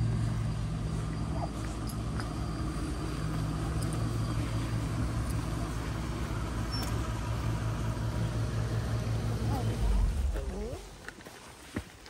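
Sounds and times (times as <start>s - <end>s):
bus engine humming: 0.0s - 11.7s.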